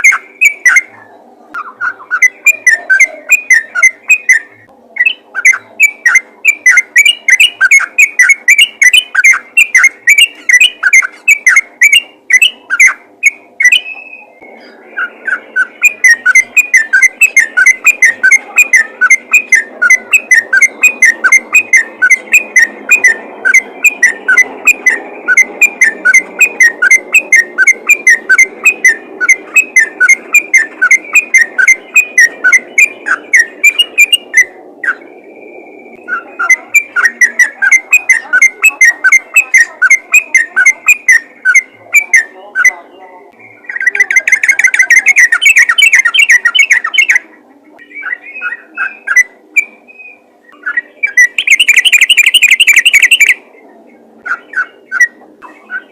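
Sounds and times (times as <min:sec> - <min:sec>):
bulbul singing whistled chirps: 0:00.0 - 0:42.8, 0:43.4 - 0:47.2, 0:47.8 - 0:53.5, 0:54.2 - 0:55.9.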